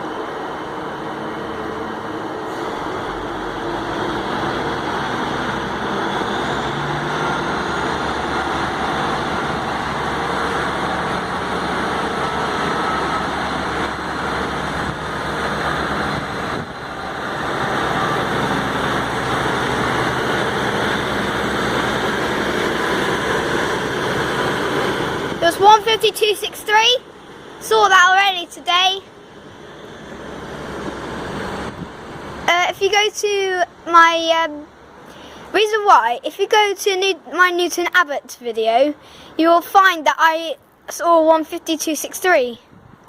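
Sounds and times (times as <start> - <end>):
train diesel engines droning: 0.0 - 43.0.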